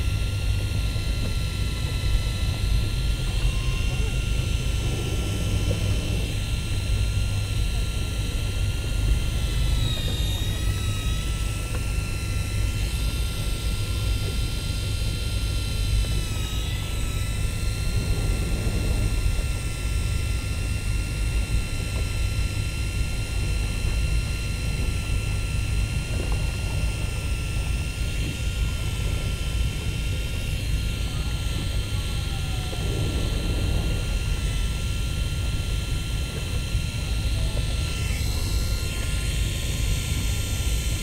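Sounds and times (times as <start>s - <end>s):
boat engine rumble: 0.0s - 41.0s
high-pitched mechanical whine: 0.0s - 41.0s.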